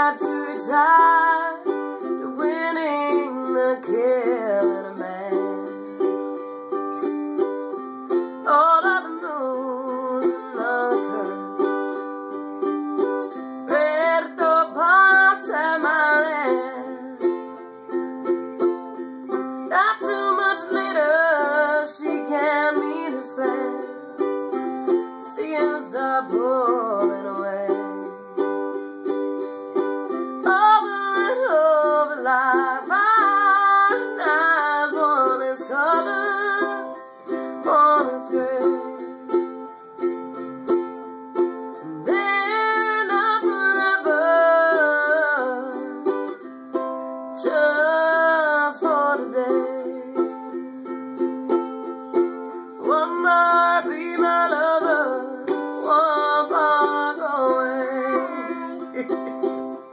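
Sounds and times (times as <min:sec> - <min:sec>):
woman singing: 0:00.0 - 0:06.3, 0:08.2 - 0:12.3, 0:13.1 - 0:17.6, 0:19.4 - 0:28.5, 0:30.1 - 0:39.4, 0:41.7 - 0:46.4, 0:47.4 - 0:51.0, 0:52.6 - 0:59.8
ukulele strumming: 0:00.0 - 0:59.9.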